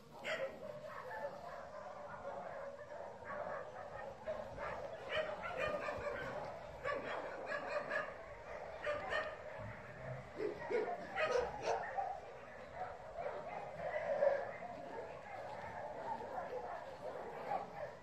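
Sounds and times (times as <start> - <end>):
dog barking and yipping: 0.2 - 18.0.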